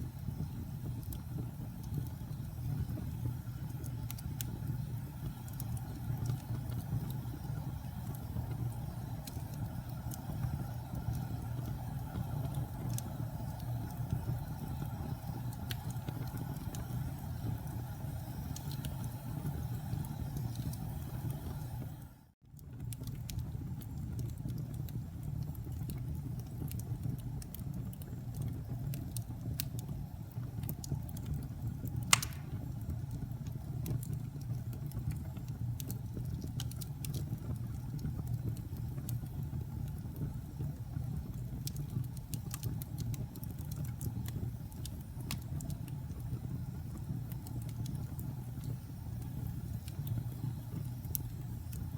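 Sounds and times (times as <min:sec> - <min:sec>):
burning wood crackling and popping: 0:00.0 - 0:21.8, 0:22.7 - 0:51.9
fire rumbling: 0:00.0 - 0:22.3, 0:25.4 - 0:51.9.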